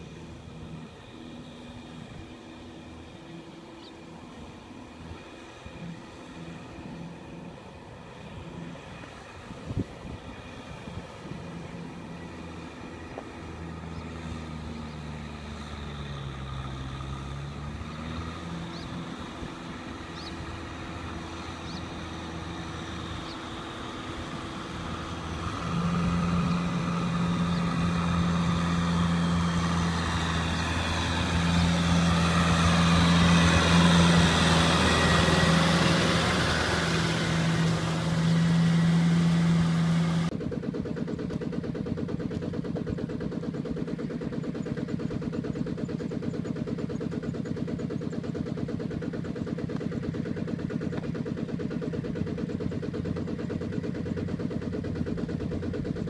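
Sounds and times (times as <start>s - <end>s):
small tractor engine chugging: 0.0s - 56.0s
tractor diesel engine under load: 0.0s - 56.0s.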